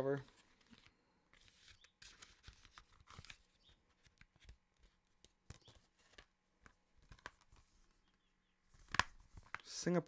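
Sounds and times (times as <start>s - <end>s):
disc case clicks and paper rustles: 0.3s - 7.6s, 8.8s - 9.6s.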